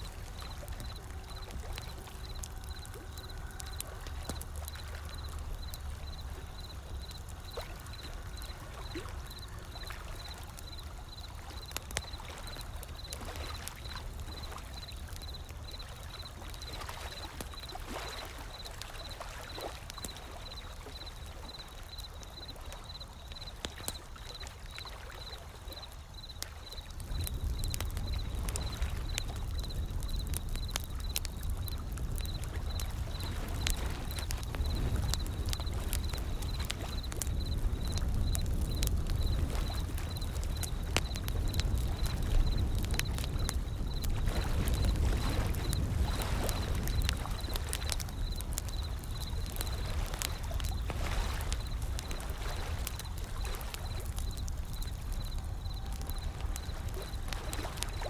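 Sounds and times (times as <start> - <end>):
ocean waves: 0.0 - 58.0
wood fire crackling: 0.0 - 58.0.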